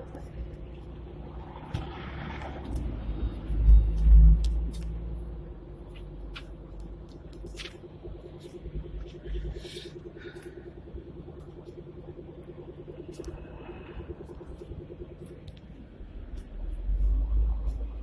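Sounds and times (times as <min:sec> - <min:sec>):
tram rumbling and humming: 0:00.0 - 0:18.0.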